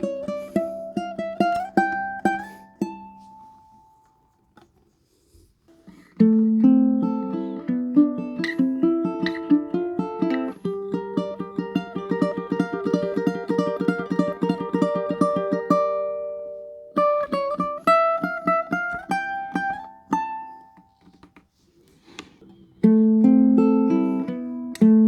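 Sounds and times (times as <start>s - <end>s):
ukulele plucked notes: 0.0s - 4.0s, 6.2s - 20.9s, 22.8s - 25.0s.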